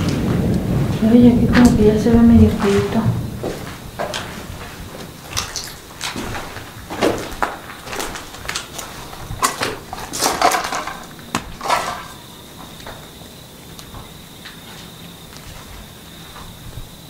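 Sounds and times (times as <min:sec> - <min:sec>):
cricket trill: 0:00.0 - 0:17.0
footsteps on gritty concrete: 0:02.4 - 0:16.6.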